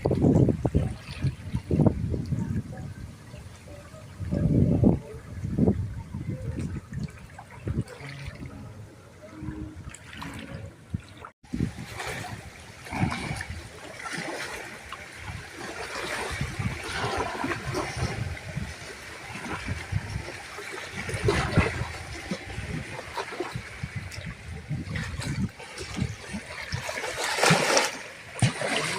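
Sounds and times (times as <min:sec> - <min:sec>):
wind buffeting microphone: 0:00.0 - 0:13.9, 0:15.1 - 0:27.8
waves lapping against riverbank: 0:00.0 - 0:28.9.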